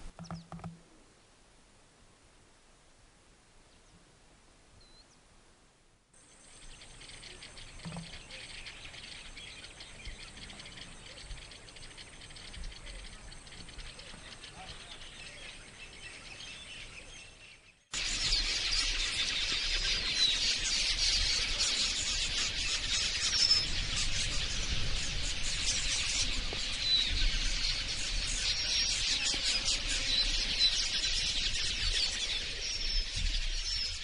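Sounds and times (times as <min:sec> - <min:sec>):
flock of birds chattering: 0:06.2 - 0:34.0.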